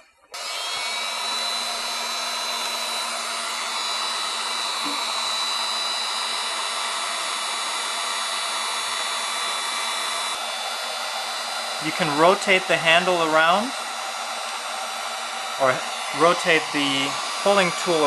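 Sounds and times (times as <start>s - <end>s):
heat gun fan whine: 0.0s - 18.0s.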